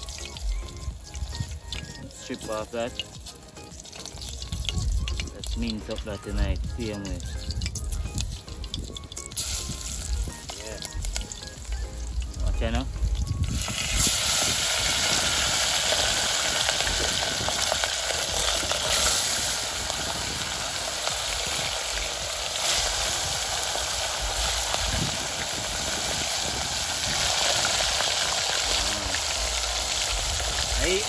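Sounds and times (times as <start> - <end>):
fish deep-frying in hot oil: 0.0 - 31.0.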